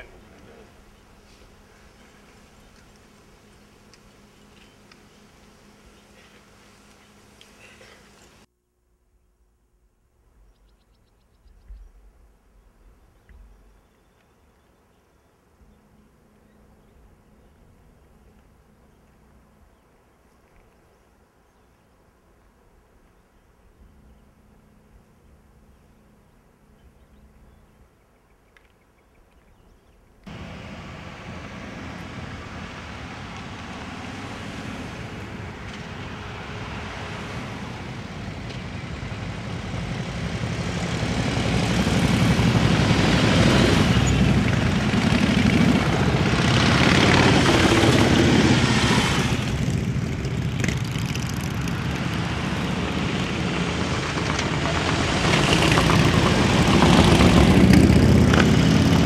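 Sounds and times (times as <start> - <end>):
motorcycle engines passing slowly: 0.0 - 8.5, 12.9 - 21.8, 22.4 - 59.0.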